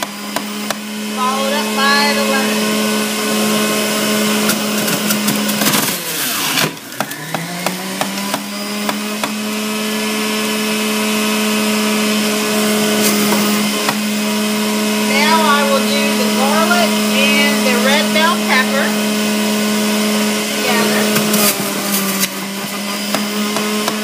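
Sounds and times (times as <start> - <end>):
juicer motor whining: 0.0 - 24.0.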